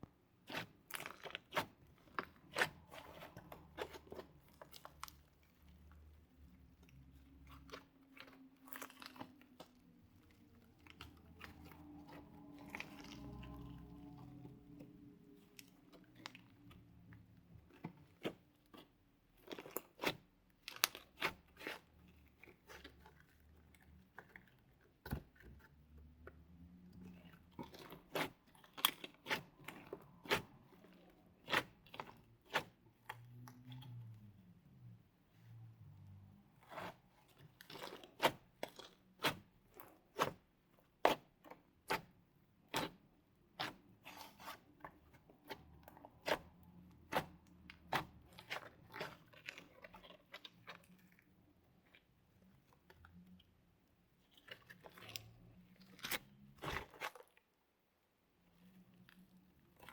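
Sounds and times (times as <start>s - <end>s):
slime squished by hand: 0.4s - 34.1s, 36.1s - 53.0s, 54.1s - 57.6s.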